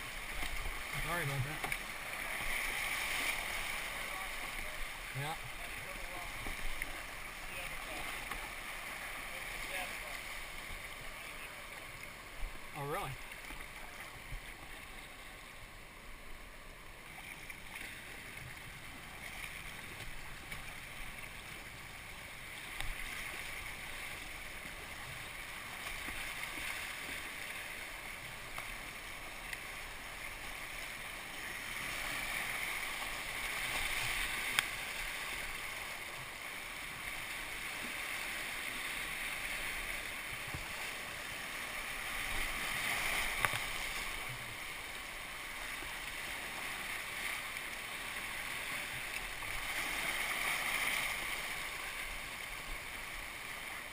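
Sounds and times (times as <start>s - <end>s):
paddle splashes: 0.0s - 53.9s
rushing whitewater: 0.0s - 53.9s.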